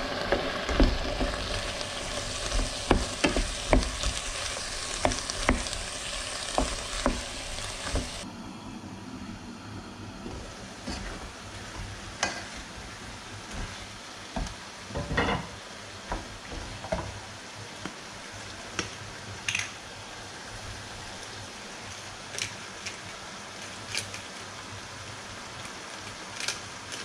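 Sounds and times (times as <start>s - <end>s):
food sizzling: 0.0s - 8.3s, 10.3s - 27.0s.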